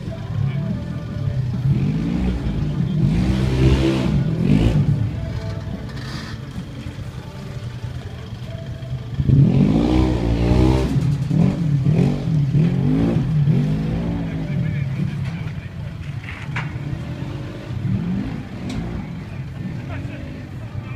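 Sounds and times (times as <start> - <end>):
car engine humming: 0.0 - 20.9.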